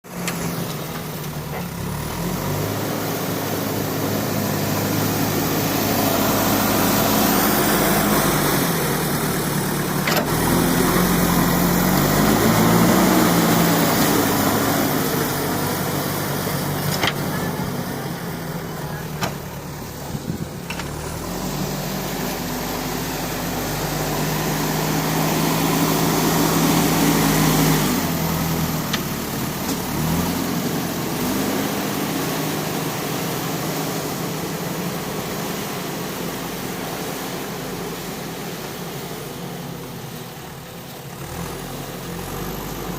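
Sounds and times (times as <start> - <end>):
backhoe diesel engine: 0.0 - 42.9.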